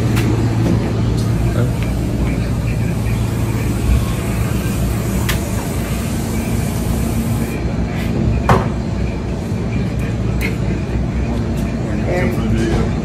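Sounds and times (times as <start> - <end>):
diner room rumble and hum: 0.0 - 13.0.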